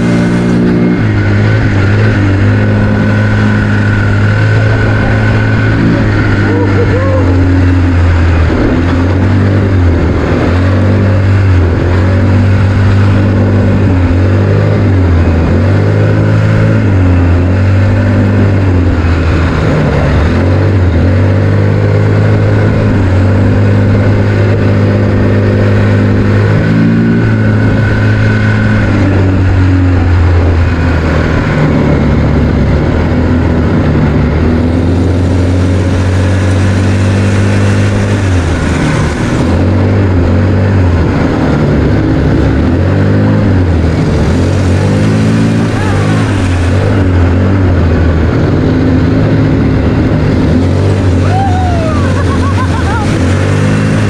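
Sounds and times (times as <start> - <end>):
all-terrain vehicle engine running: 0.0 - 54.0.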